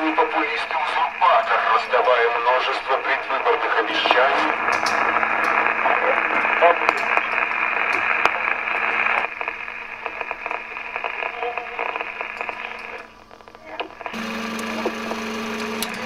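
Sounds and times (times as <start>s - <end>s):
radio static crackling: 0.0s - 16.0s
steady hum: 0.0s - 16.0s.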